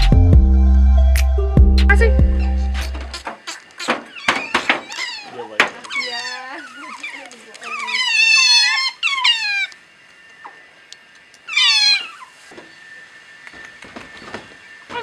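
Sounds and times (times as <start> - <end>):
otters squealing: 2.2 - 15.0.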